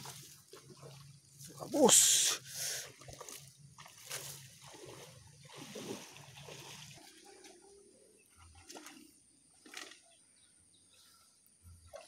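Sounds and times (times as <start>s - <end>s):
splashing of shallow water: 0.0s - 10.2s.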